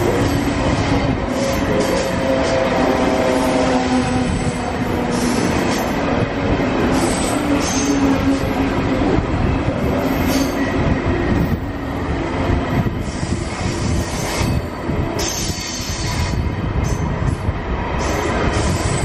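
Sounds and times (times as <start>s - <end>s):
train wheels rumbling on tracks: 0.0s - 19.0s.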